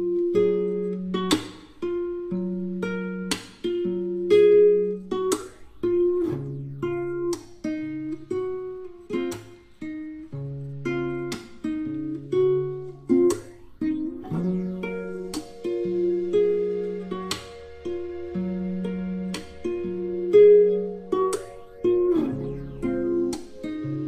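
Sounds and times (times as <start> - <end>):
acoustic guitar music: 0.0 - 24.0.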